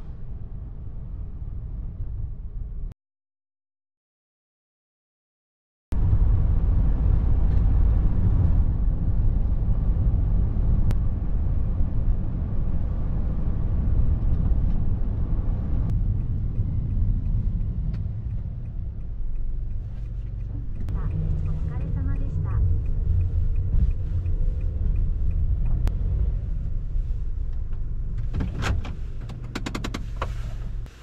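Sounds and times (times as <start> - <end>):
car road and engine rumble: 0.0 - 2.9, 5.9 - 31.0.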